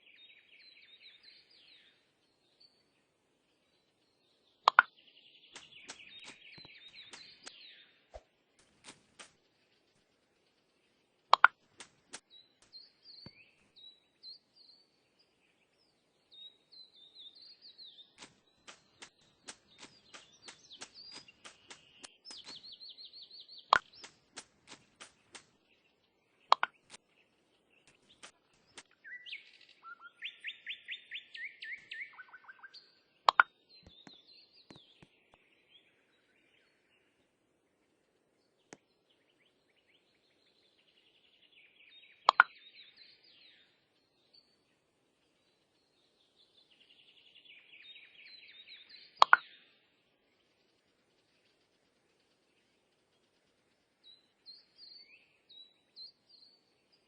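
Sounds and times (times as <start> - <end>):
small bird chirping and trilling: 0.0 - 37.0, 38.6 - 57.0.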